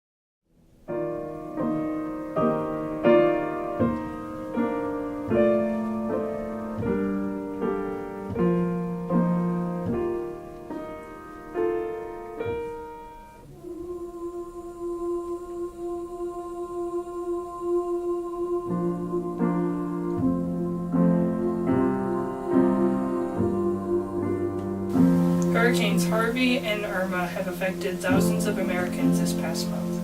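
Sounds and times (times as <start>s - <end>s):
slow piano chords: 0.5s - 30.0s.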